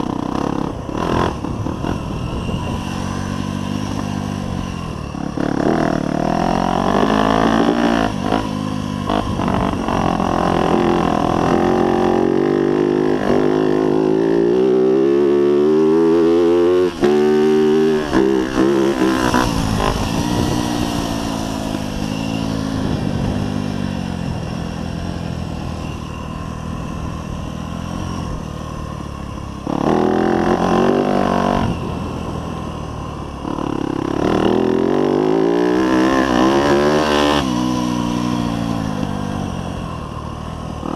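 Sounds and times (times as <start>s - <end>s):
dirt bike engine revving: 0.0s - 25.8s, 29.6s - 32.2s, 33.4s - 39.9s.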